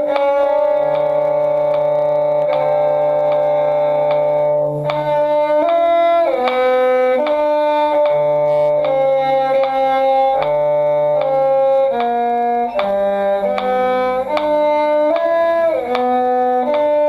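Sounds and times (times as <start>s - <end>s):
violin and cello duet: 0.0s - 17.0s.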